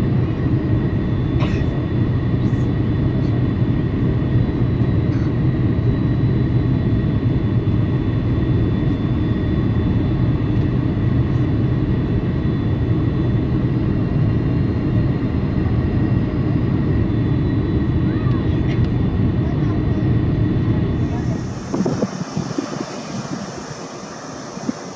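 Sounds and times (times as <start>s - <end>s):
airliner cabin engine rumble: 0.0s - 24.9s
thin high engine whine: 0.0s - 24.9s.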